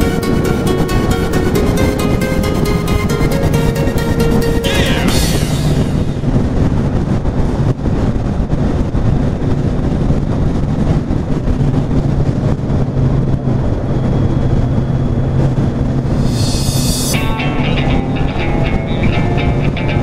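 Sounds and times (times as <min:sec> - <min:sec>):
road rumble: 0:00.0 - 0:19.9
heavy wind: 0:00.0 - 0:20.0.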